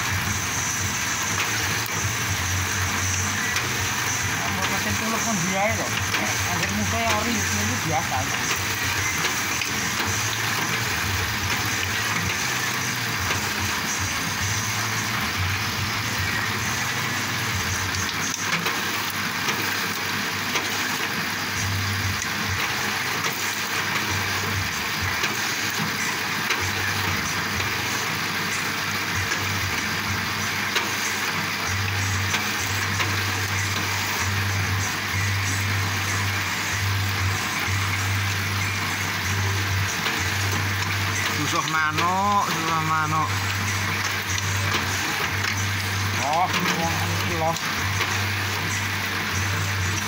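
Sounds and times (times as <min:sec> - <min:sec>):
bamboo shaving machine running: 0:00.0 - 0:50.0.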